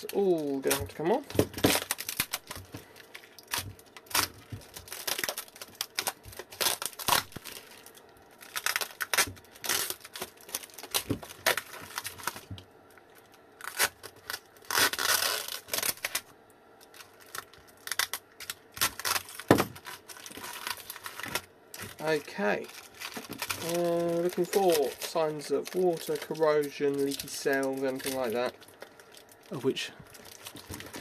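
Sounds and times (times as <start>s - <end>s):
tape and plastic ripping: 0.0s - 12.6s, 13.2s - 31.0s.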